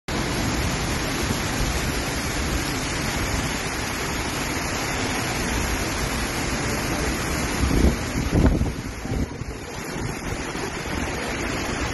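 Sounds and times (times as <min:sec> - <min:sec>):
heavy rain pouring: 0:00.1 - 0:11.9
wind buffeting microphone: 0:00.2 - 0:11.9.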